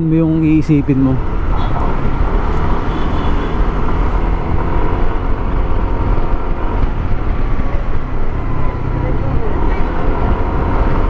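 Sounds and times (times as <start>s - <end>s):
motorcycle running: 0.0s - 11.0s
wind rumble on microphone: 1.2s - 11.0s.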